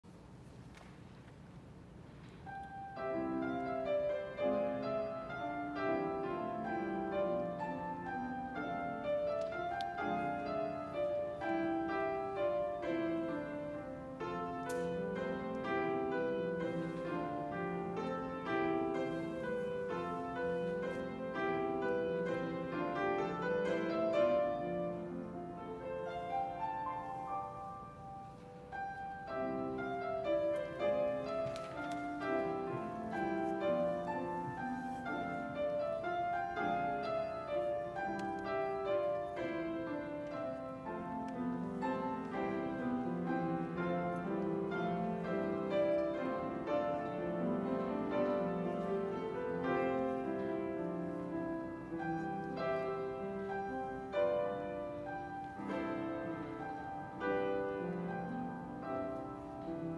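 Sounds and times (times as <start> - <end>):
grand piano playing: 1.6 - 59.9.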